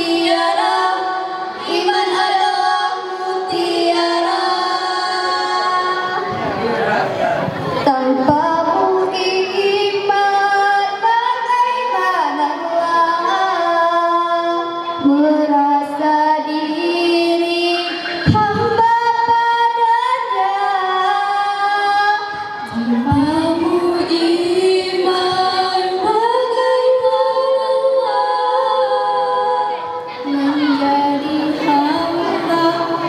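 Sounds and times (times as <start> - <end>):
women singing together: 0.0 - 33.0.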